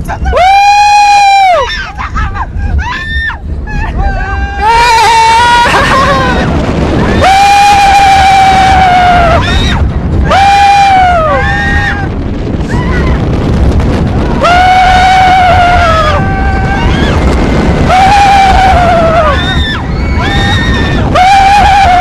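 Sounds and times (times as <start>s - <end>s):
roller coaster riders screaming: 0.0s - 22.0s
wind and ride noise: 0.0s - 22.0s.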